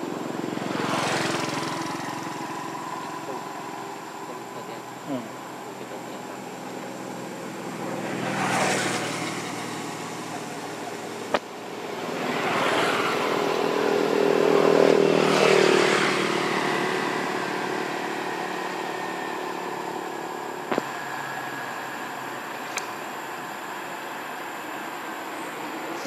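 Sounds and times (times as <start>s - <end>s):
vehicle driving past: 0.0s - 22.6s.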